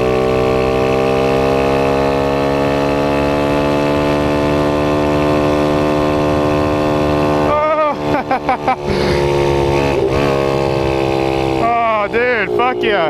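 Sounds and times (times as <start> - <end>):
motorbike engine at full throttle: 0.0 - 13.0.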